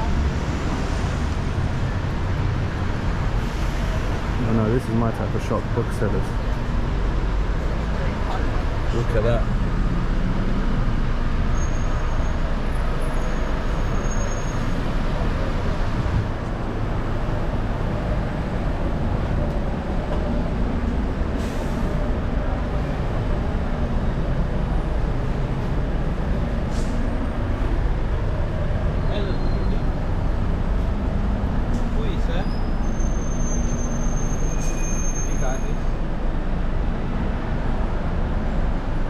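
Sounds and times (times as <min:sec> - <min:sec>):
street traffic rumble: 0:00.0 - 0:39.0.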